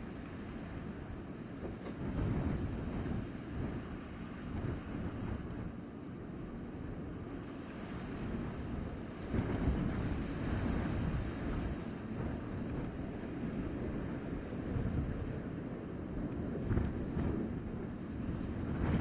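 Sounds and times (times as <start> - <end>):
blizzard wind gusts: 0.0 - 19.0.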